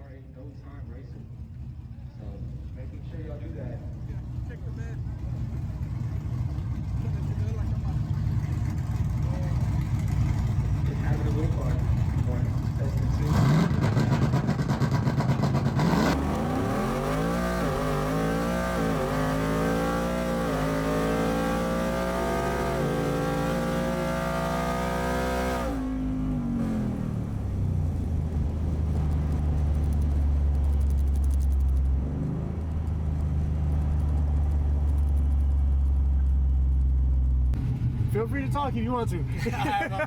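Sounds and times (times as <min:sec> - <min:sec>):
pickup engine accelerating: 0:00.8 - 0:40.0.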